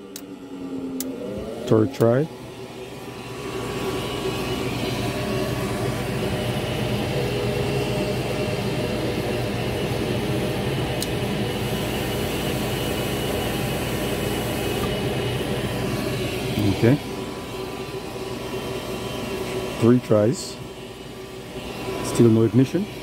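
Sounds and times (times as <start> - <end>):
furnace motor whooshing hum: 0.0 - 23.0.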